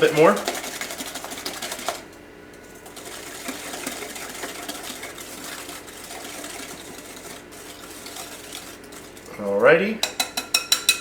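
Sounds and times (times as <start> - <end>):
utensil scraping batter bowl: 0.0 - 11.0.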